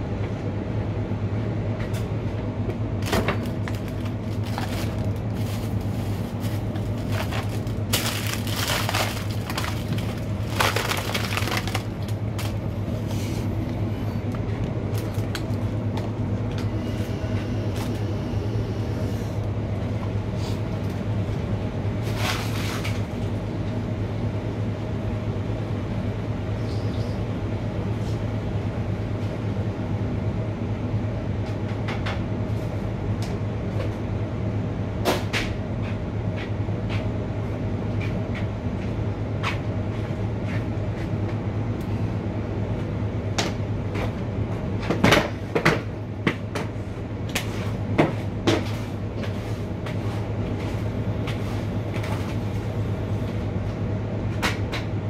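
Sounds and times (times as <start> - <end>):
low electrical hum of kitchen machines: 0.0 - 55.0.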